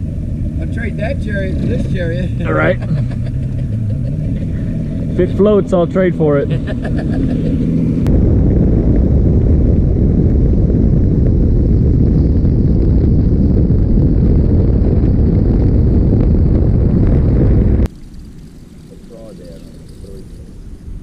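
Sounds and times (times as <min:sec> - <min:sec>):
dull low rumble: 0:00.0 - 0:21.0
wind buffeting microphone: 0:00.0 - 0:21.0.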